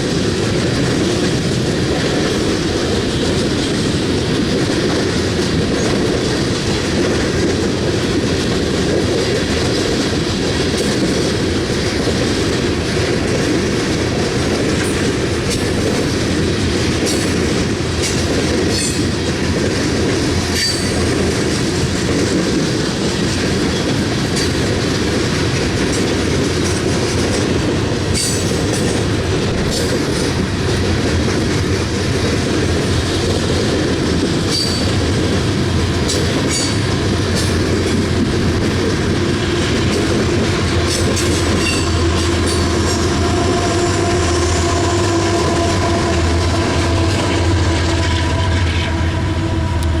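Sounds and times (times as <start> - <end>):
train cars rumbling past: 0.0 - 50.0
wheels clacking over rail joints: 0.0 - 50.0.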